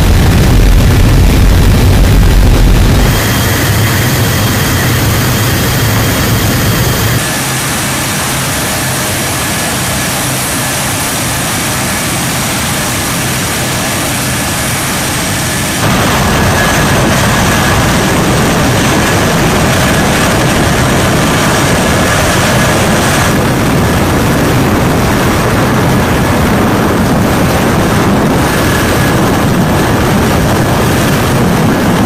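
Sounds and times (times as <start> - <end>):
jet engines roaring with whine: 0.0 - 32.0.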